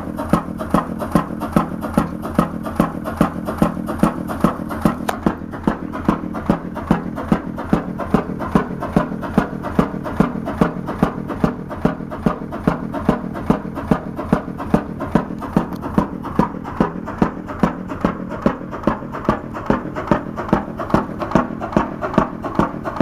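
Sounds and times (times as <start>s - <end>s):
stationary engine running: 0.0s - 23.0s.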